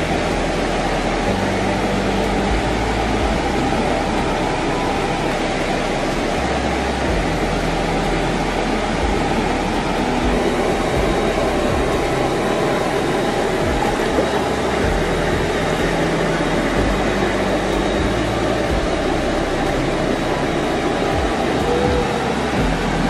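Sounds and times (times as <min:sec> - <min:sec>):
river and waterfall rushing: 0:00.0 - 0:23.0.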